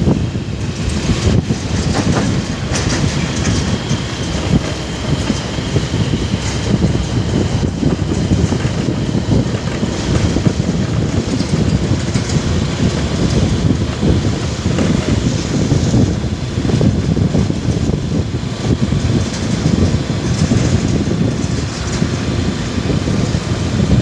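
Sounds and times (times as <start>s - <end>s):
motorcycle engine rumble: 0.0s - 24.0s
wind buffeting microphone: 0.0s - 24.0s.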